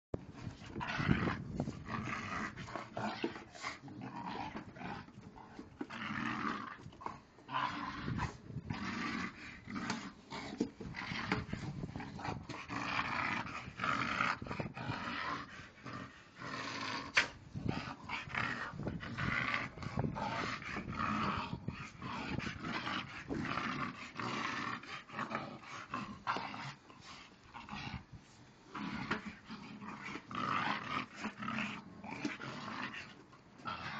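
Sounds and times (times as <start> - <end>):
dog growling in play: 0.2 - 33.9.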